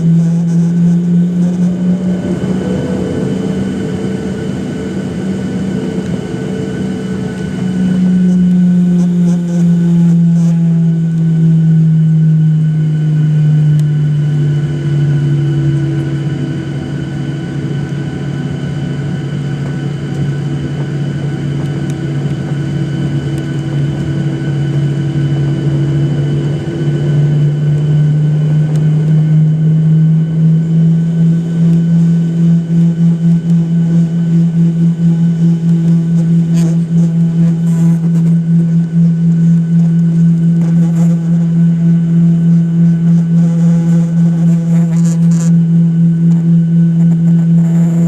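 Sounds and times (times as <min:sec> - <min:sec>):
aircraft engine hum: 0:00.0 - 0:48.0.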